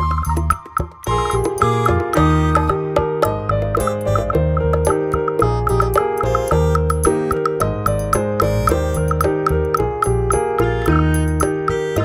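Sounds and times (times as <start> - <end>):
cheerful music with bass and beat: 0.0 - 12.0.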